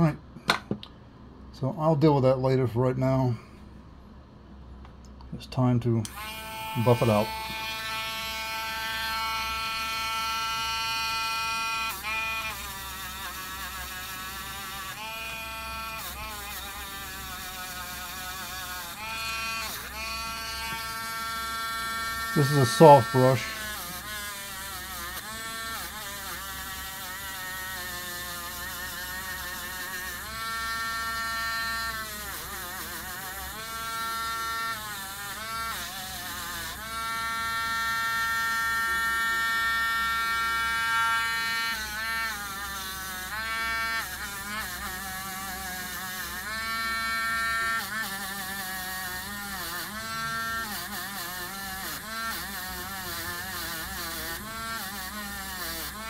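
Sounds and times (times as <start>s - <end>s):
rotary tool buffing metal: 6.1s - 56.0s.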